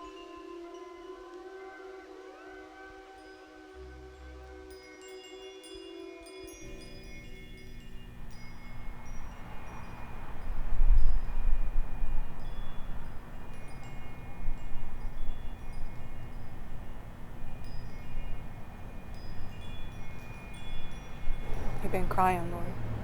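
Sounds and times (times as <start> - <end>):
wind chimes tinkling: 0.0 - 2.2, 3.2 - 23.0.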